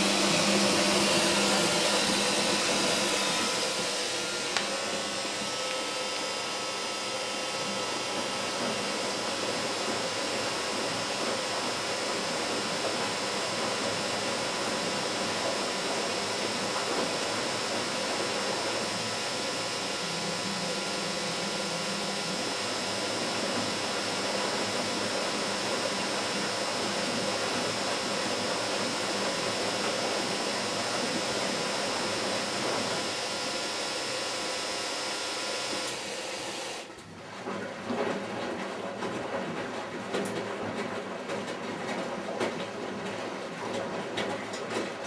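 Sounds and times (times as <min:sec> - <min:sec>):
washing machine hissing: 0:00.0 - 0:45.0.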